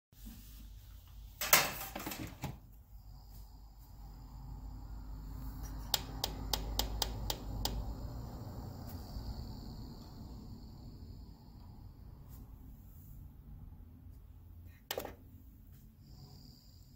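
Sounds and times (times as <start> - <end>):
ventilator fan running: 0.4 - 16.9.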